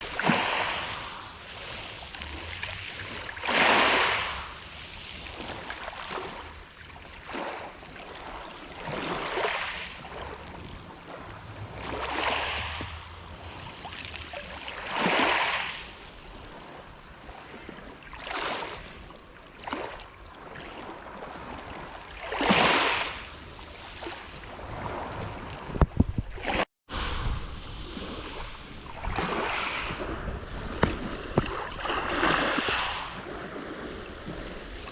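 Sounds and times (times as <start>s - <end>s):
wind rumble on microphone: 0.0s - 19.3s, 20.1s - 34.9s
waves breaking on shore: 0.0s - 34.9s.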